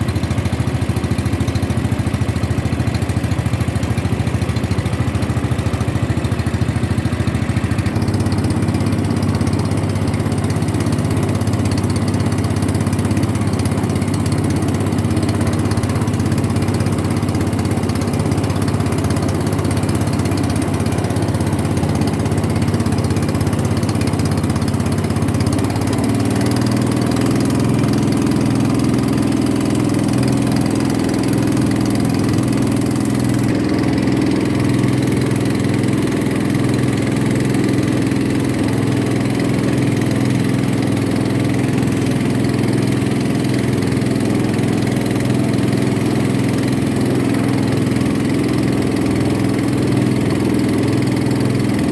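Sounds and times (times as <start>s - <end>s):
boat engine running: 0.0s - 51.9s.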